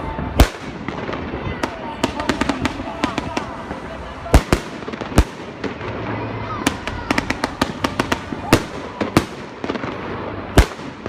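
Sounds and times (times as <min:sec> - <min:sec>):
crowd noise hum: 0:00.0 - 0:11.0
fireworks bangs: 0:00.0 - 0:11.0.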